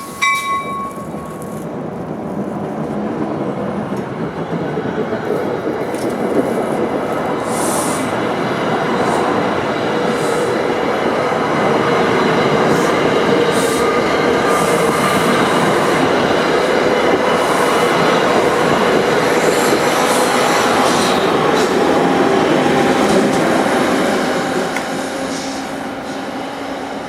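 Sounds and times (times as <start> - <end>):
train wheel and track noise: 0.0 - 27.0.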